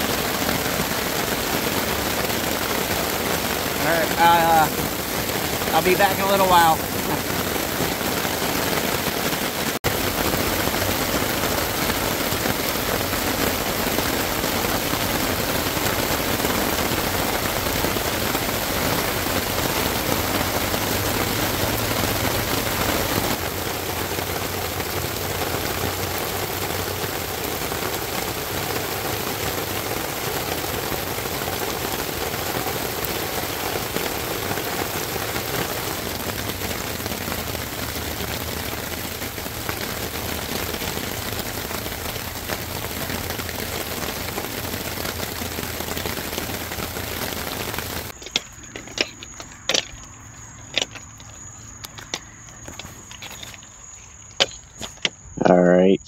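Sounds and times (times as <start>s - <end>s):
heavy rain falling: 0.0s - 55.1s.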